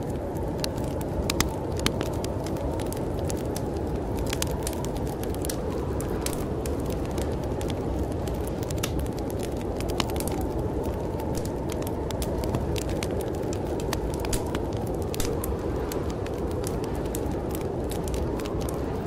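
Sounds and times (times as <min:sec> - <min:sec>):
storm wind rushing: 0:00.0 - 0:19.0
wood fire crackling and popping: 0:00.0 - 0:19.0.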